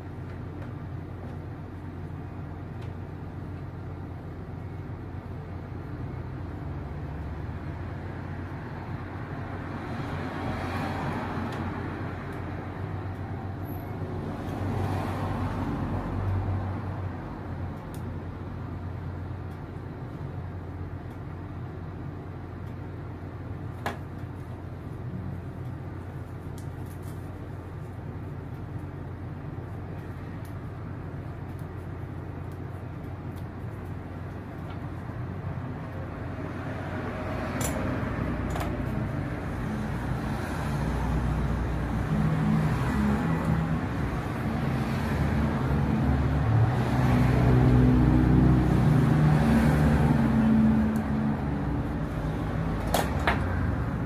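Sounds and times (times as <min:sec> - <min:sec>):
steady low hum: 0:00.0 - 0:46.8
vehicles passing: 0:00.0 - 0:54.0.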